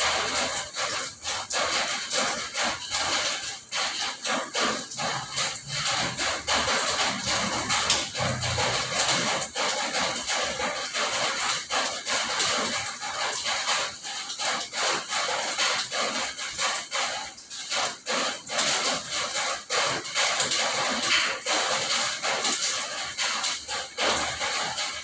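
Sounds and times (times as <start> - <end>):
close raindrop impacts: 0.0 - 25.0
heavy rain falling: 0.0 - 25.0.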